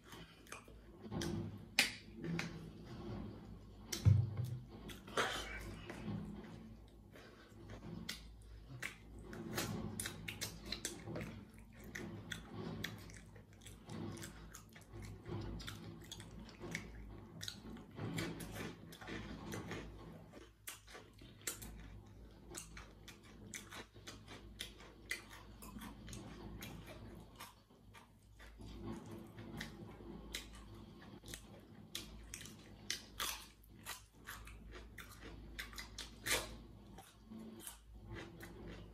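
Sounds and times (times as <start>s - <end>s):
chewing and crunching dry rusk: 4.7s - 38.9s.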